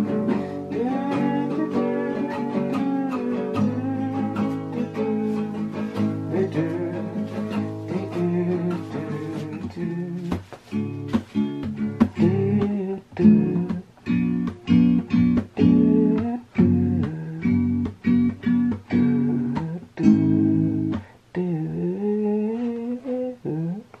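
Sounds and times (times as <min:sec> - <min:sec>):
acoustic guitar plucking: 0:00.0 - 0:24.0.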